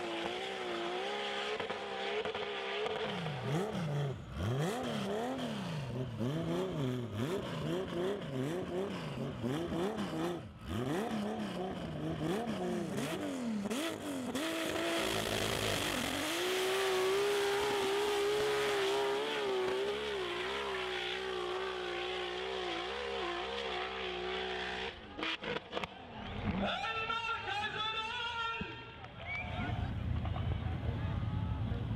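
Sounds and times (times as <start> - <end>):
engine revving at full throttle: 0.0 - 25.9.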